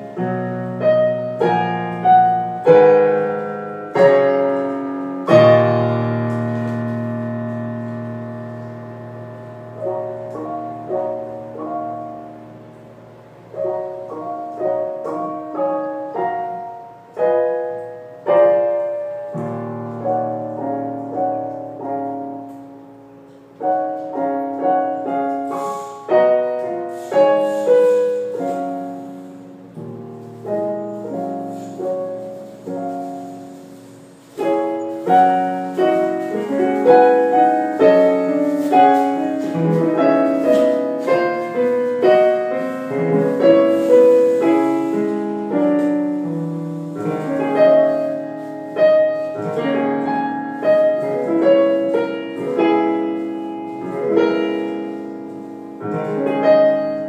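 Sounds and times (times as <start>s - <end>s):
solo piano classical piece: 0.0s - 57.0s.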